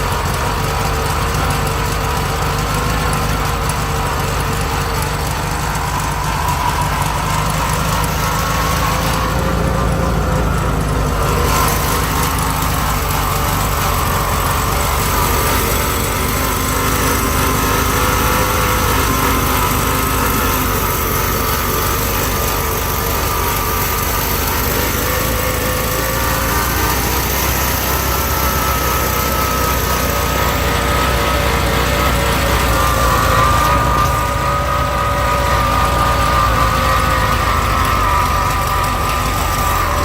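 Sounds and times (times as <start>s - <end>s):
car engine idling roughly: 0.0s - 40.0s
generator noise: 0.0s - 40.0s.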